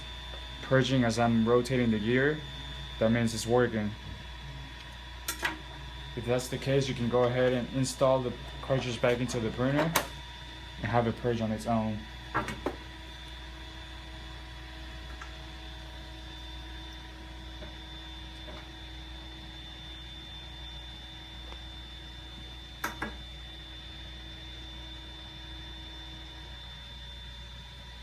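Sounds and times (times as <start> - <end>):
printer low hum with faint tones: 0.0 - 28.0.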